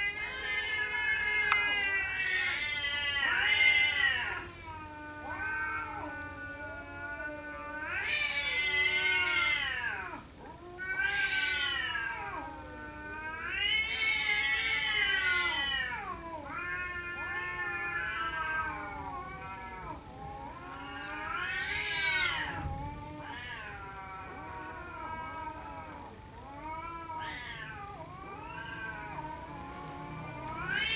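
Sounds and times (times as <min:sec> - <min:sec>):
cats yowling: 0:00.0 - 0:30.9.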